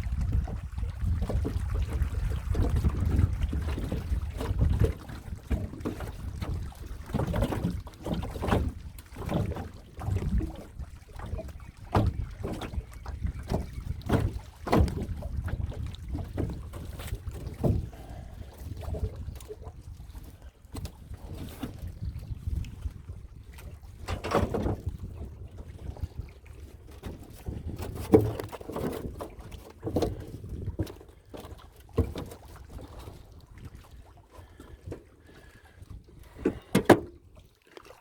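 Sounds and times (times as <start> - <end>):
wind buffeting microphone: 0.0 - 31.0
water splashing around a boat: 0.0 - 38.0.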